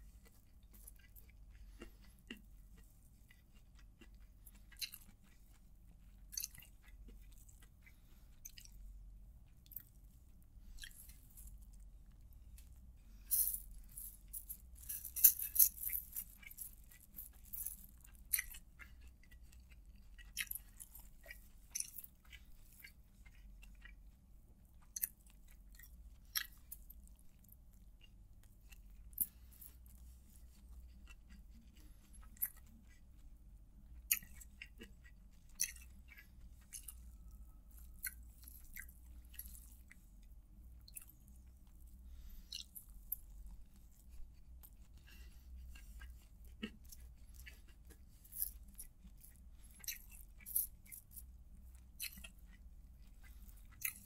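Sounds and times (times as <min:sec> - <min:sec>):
close-up chewing of rice: 0:00.0 - 0:54.0
low steady hum: 0:00.0 - 0:54.0.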